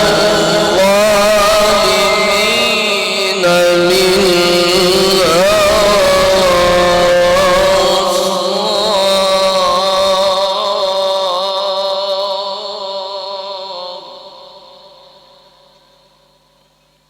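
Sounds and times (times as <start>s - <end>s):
man reciting a long melismatic note: 0.0s - 16.4s.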